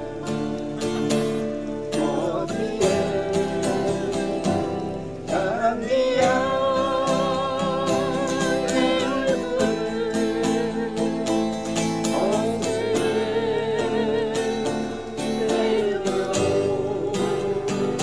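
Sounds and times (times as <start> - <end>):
acoustic guitar: 0.0 - 18.0
person singing: 0.0 - 18.0.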